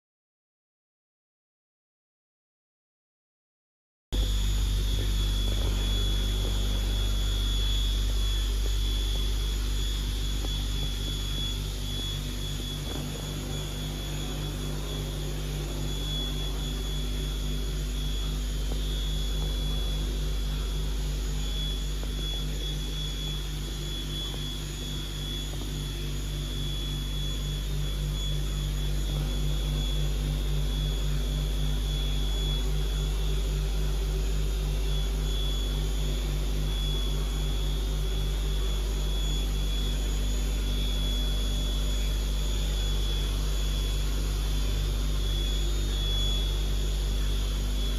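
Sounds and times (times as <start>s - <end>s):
lathe machine hum with whine: 4.2s - 47.9s.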